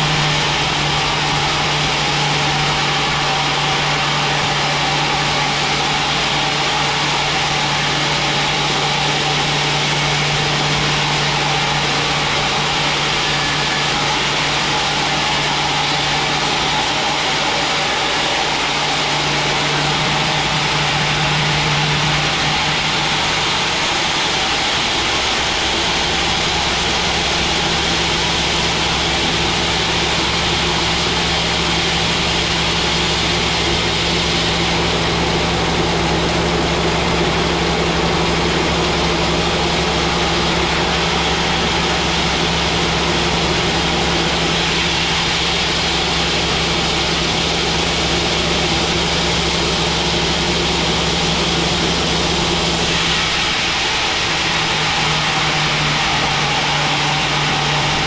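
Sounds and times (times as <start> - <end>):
band sawmill whirring: 0.0 - 58.0.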